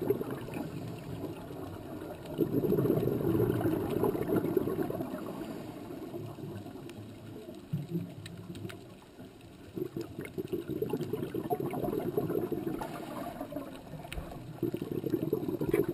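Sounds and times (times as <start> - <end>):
gurgling bubbling water: 0.0 - 15.9
faint clicks: 0.4 - 15.9.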